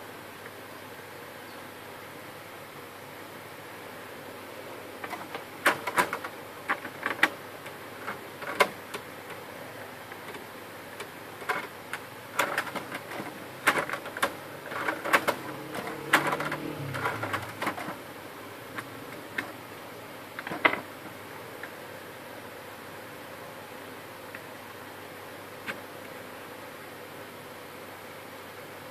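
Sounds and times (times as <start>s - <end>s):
steady background hiss: 0.0s - 28.9s.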